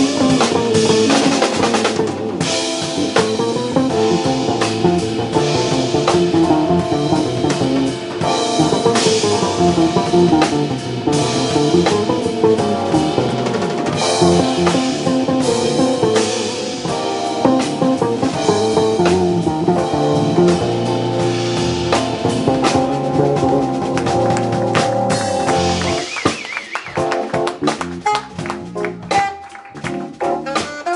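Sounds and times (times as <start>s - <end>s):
electric bass: 0.0s - 26.2s, 27.0s - 30.7s
drum kit beat: 0.0s - 30.9s
keyboards: 0.0s - 30.9s.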